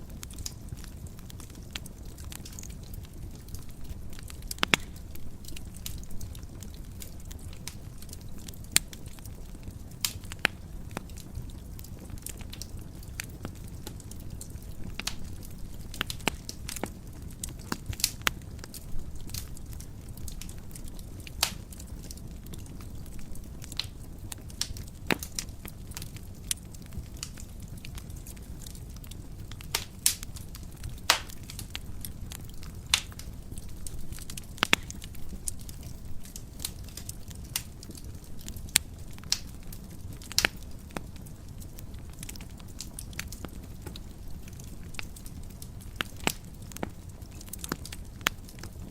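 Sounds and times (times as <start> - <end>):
fire crackling and popping: 0.0 - 48.9
fire flames rumbling: 0.0 - 48.9.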